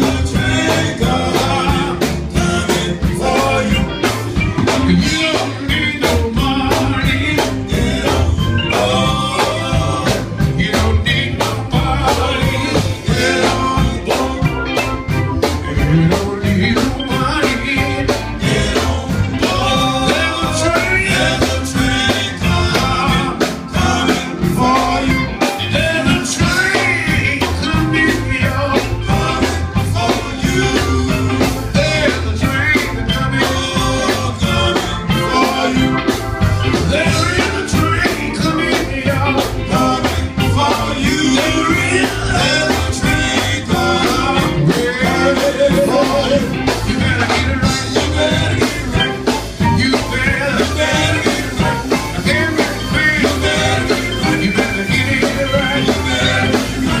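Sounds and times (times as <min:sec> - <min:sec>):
band playing steady beat: 0:00.0 - 0:57.0
gospel vocal group singing: 0:00.0 - 0:57.0.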